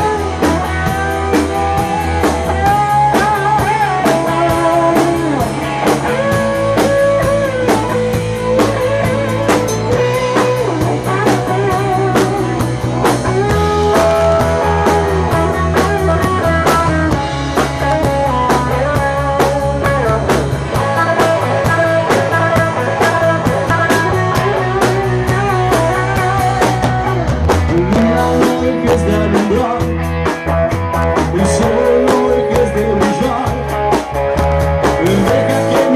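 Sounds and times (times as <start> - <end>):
bass guitar: 0.0 - 35.9
lead electric guitar: 0.0 - 35.9
steady drum beat: 0.0 - 35.9.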